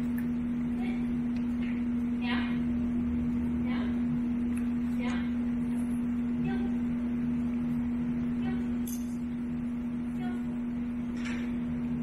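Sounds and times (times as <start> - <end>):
low-pitched hum: 0.0 - 12.0.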